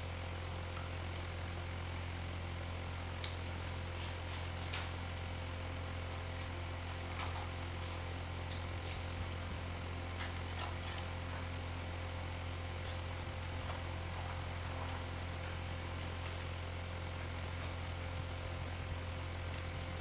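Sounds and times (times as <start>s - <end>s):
low electrical hum and hiss: 0.0s - 20.0s.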